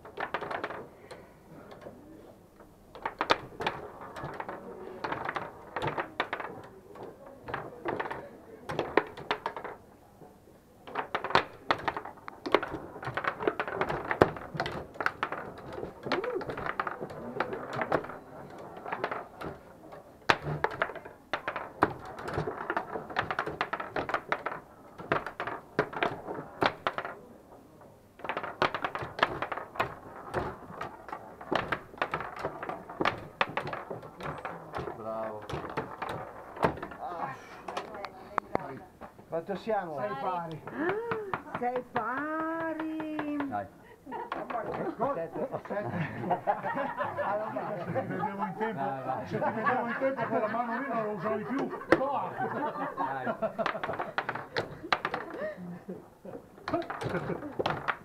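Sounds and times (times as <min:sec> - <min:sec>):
foosball ball and rods clacking: 0:00.0 - 0:09.9, 0:10.8 - 0:48.3, 0:49.1 - 0:58.0.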